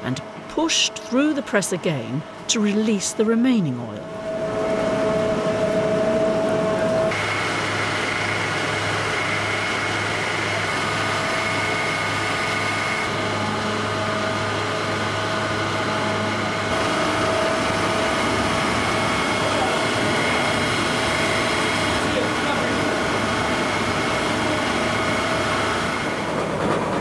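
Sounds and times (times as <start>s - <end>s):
mill machinery humming: 0.0s - 27.0s.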